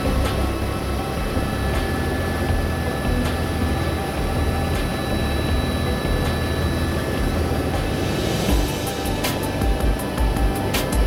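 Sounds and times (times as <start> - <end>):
faint high whine: 0.0 - 11.0
helicopter rotor and engine drone: 0.0 - 11.0.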